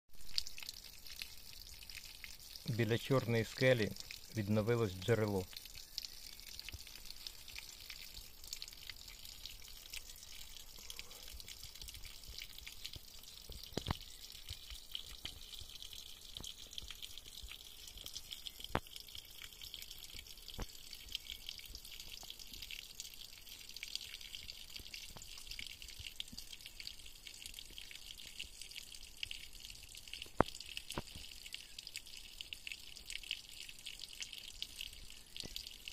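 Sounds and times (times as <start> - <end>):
water trickling onto rock: 0.2 - 35.9.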